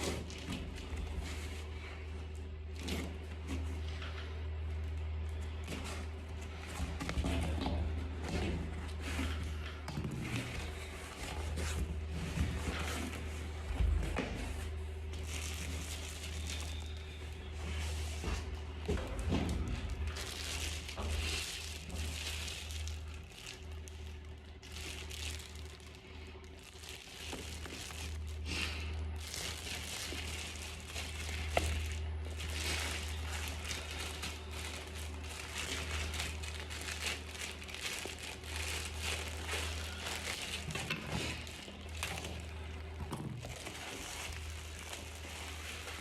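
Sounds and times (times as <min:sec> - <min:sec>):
packaging crinkling: 0:00.0 - 0:46.0.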